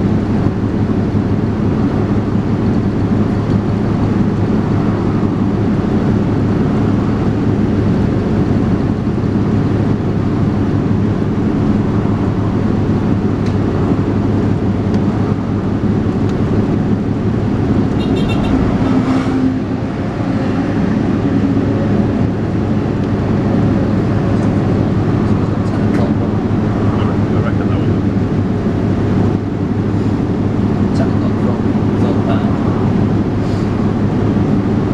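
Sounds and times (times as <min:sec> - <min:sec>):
bus engine drone: 0:00.0 - 0:34.9.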